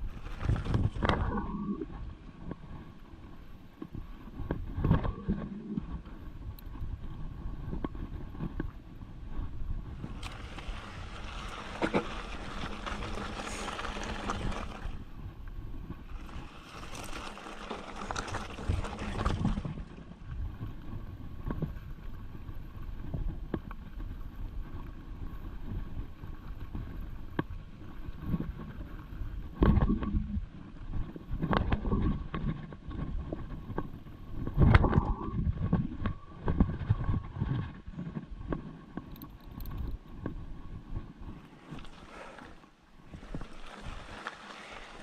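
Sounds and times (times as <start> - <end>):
bike tyre rumble: 0.0 - 45.0.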